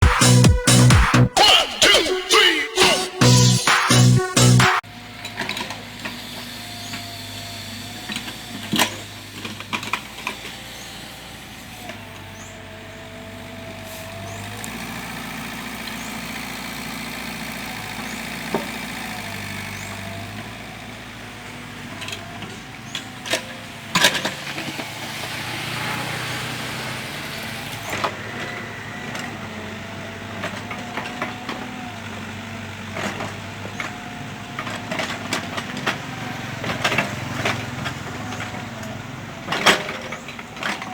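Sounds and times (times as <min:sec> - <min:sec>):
mini excavator engine running: 0:04.1 - 0:40.9.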